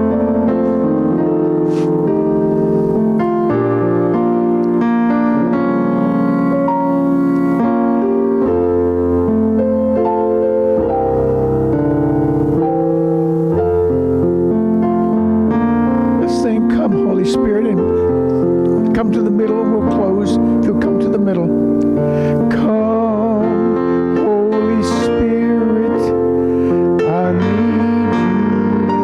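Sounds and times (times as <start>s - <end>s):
slow keyboard piano chords: 0.0s - 29.0s.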